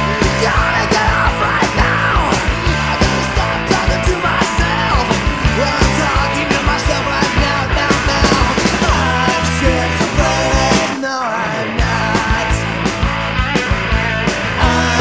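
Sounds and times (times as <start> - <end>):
pounding drum beat: 0.0 - 11.0, 11.8 - 15.0
loud punk rock music: 0.0 - 15.0.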